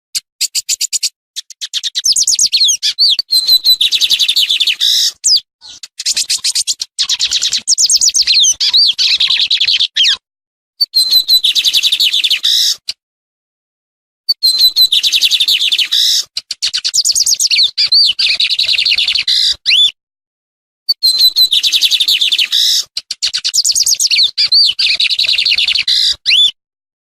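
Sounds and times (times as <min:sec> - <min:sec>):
bird singing harsh chattering notes: 0:00.2 - 0:10.2, 0:10.8 - 0:12.9, 0:14.3 - 0:19.9, 0:20.9 - 0:26.5.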